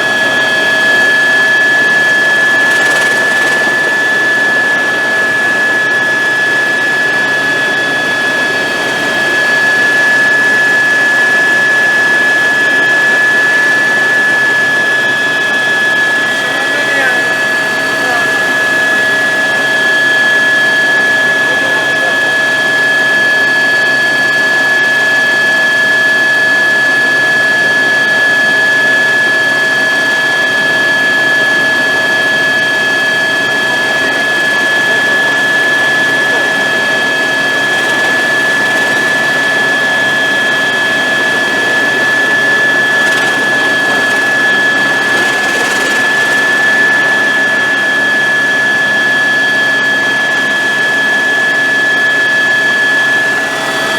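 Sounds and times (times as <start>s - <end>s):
helicopter in flight: 0.0s - 53.9s.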